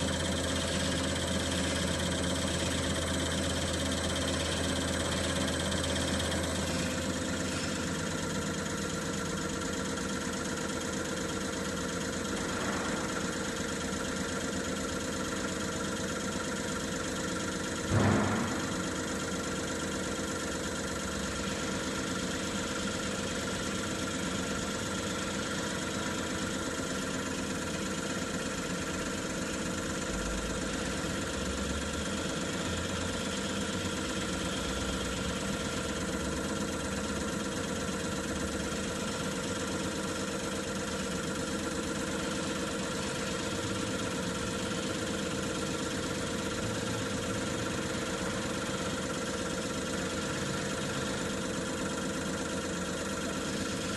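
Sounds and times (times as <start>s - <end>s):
test bench motor humming: 0.0s - 53.9s.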